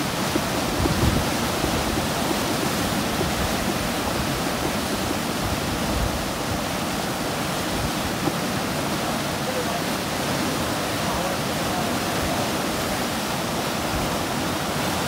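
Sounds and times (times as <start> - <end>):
whitewater rushing: 0.0 - 15.0.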